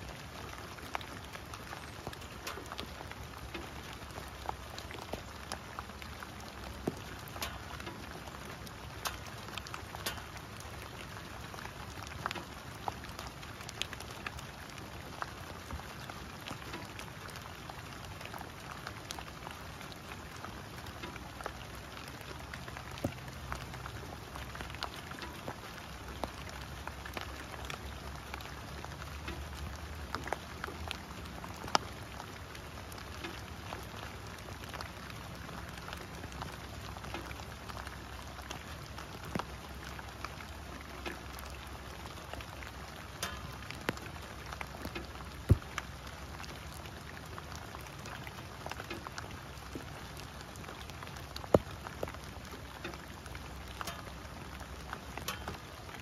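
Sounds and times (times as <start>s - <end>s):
rain on leaves and grass: 0.0s - 56.0s
raindrops ticking: 0.0s - 56.0s.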